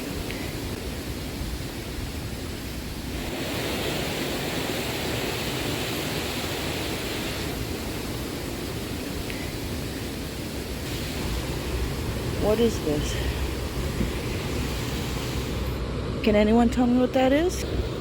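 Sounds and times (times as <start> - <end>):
river rushing: 0.0 - 16.3.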